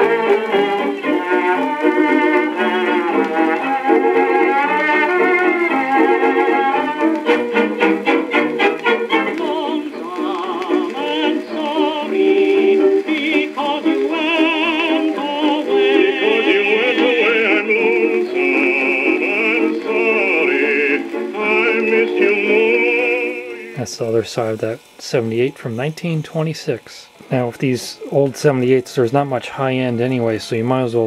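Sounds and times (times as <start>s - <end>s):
old record music with vibrato melody: 0.0s - 31.0s.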